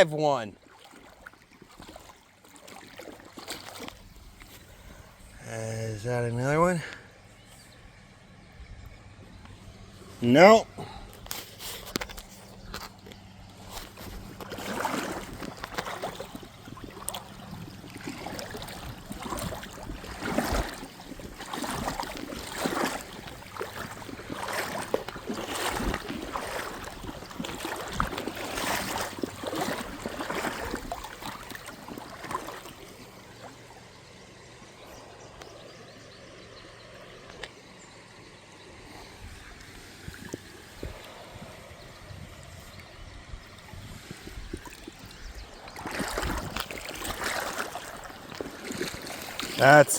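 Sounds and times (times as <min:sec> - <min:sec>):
creek water splashing: 0:00.0 - 0:49.9.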